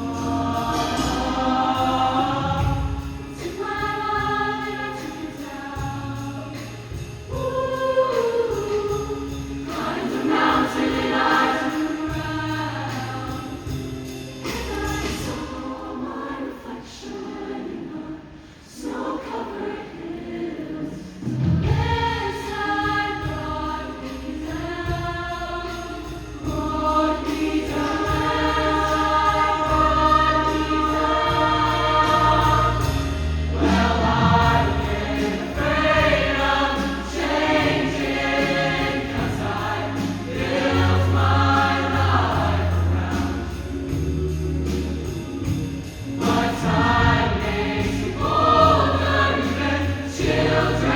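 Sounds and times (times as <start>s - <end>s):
instrumental accompaniment: 0.0s - 16.5s, 21.2s - 50.9s
choir singing in harmony: 0.0s - 50.9s.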